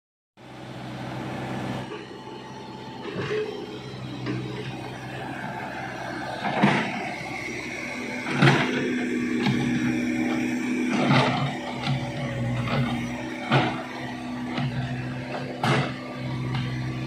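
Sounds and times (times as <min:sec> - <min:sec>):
diesel engine running: 0:00.4 - 0:17.0.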